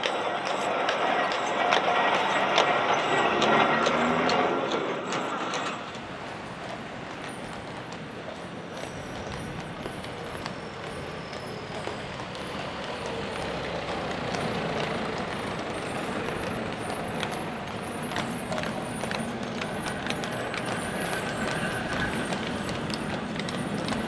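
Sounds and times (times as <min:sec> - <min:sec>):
hooves clopping on road: 0:00.0 - 0:24.0
road traffic noise: 0:00.0 - 0:24.0
tram wheels rumbling on rails: 0:00.0 - 0:24.0.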